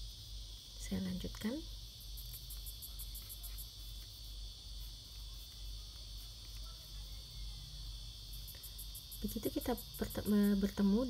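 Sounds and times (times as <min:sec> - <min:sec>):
faint low hum: 0:00.0 - 0:11.0
fast pulsed insect chirping: 0:00.0 - 0:11.0
insects trilling: 0:00.0 - 0:11.0.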